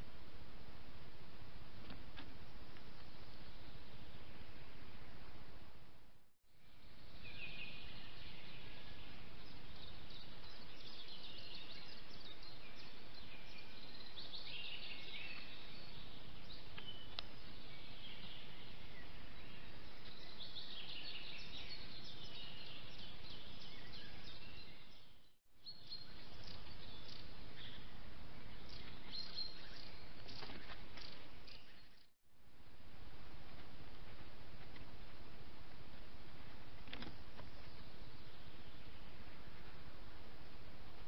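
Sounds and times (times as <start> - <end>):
birds chirping and trilling: 2.2 - 5.6, 6.6 - 32.2, 35.9 - 41.0.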